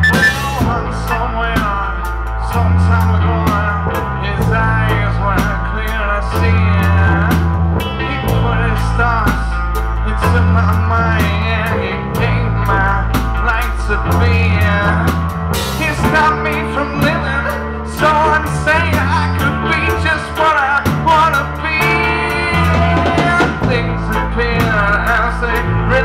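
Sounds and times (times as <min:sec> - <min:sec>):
bass guitar: 0:00.0 - 0:26.0
drum kit: 0:00.0 - 0:26.0
electric guitar: 0:00.0 - 0:26.0
keyboard: 0:00.0 - 0:26.0
man singing: 0:00.0 - 0:26.0.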